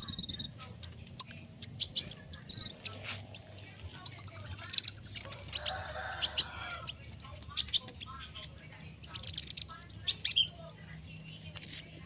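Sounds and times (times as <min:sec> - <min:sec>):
bird chirps and trills: 0:00.0 - 0:11.5.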